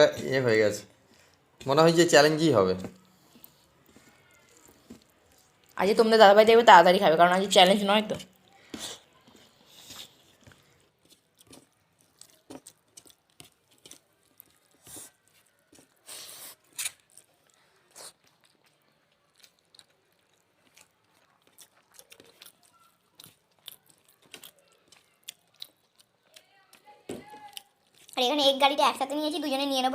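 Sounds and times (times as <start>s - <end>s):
people chewing: 0.1s - 28.6s.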